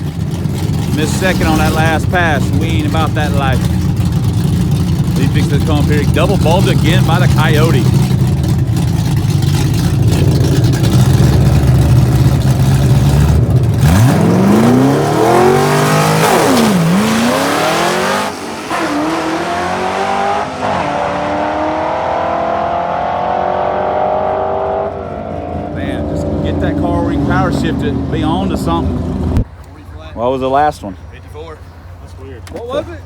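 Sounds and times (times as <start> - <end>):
car engine accelerating: 0.0 - 29.6.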